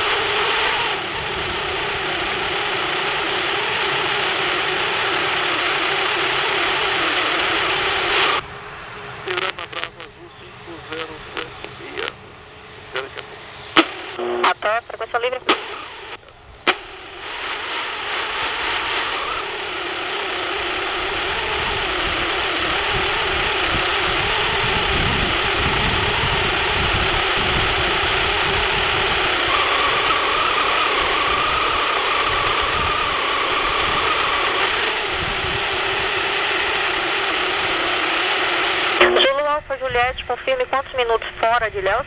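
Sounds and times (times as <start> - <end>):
higher engine whine: 0.0 - 42.0
jet engines roaring and whining: 0.0 - 42.0.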